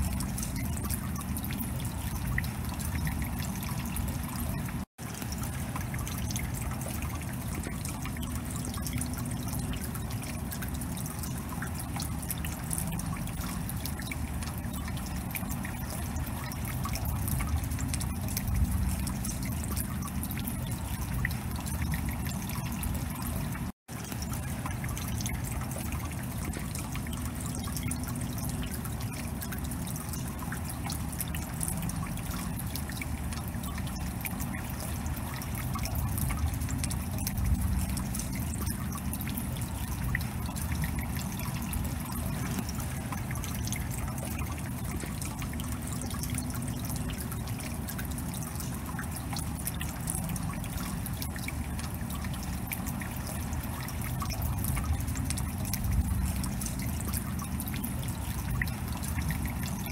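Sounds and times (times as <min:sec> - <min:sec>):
water drops ticking: 0:00.0 - 0:59.9
water trickling: 0:00.0 - 0:59.9.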